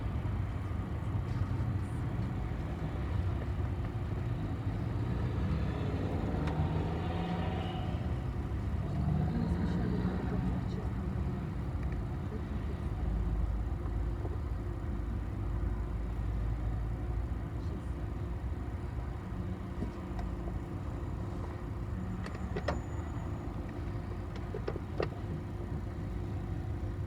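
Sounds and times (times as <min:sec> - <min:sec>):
bus engine and road rumble: 0:00.0 - 0:27.0.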